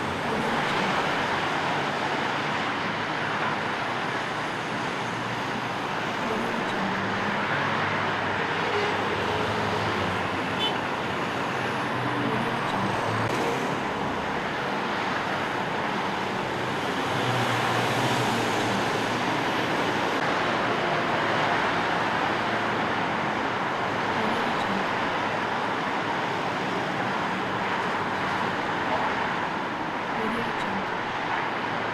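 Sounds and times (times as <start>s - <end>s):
passing cars buses and trucks: 0.0s - 31.9s.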